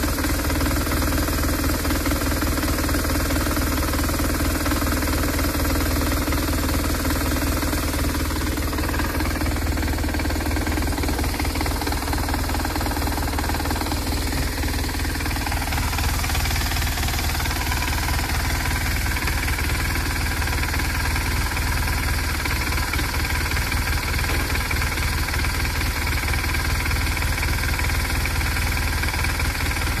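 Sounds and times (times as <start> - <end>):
engine knocking clatter: 0.0 - 30.0
motorcycle engine idling: 0.0 - 30.0.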